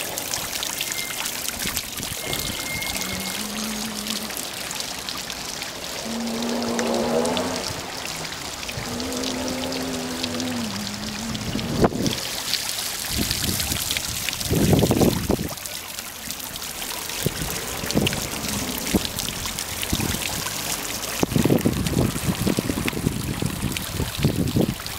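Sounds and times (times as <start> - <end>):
fountain water splashing: 0.0 - 24.9
low rumbles: 0.4 - 24.9.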